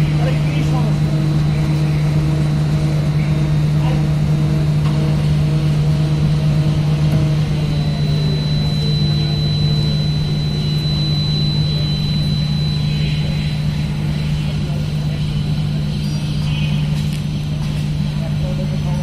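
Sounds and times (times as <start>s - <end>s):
construction machinery engine drone: 0.0s - 19.0s
thin high whine: 0.0s - 19.0s.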